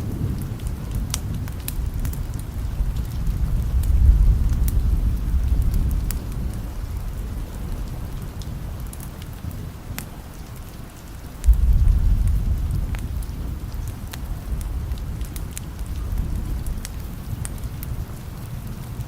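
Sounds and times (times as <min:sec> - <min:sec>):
thunder clap rumbling: 0:00.0 - 0:10.2, 0:11.3 - 0:19.0
steady rain: 0:00.0 - 0:19.0.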